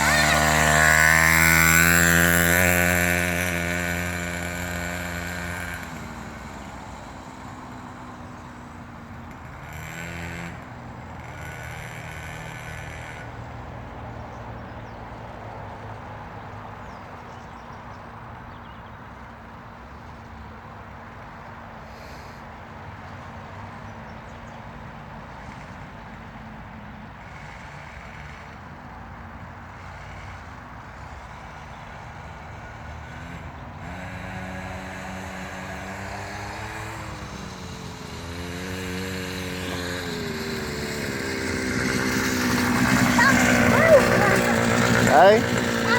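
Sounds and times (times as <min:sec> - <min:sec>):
motocross bike engine: 0:00.0 - 0:17.8, 0:24.9 - 0:45.9.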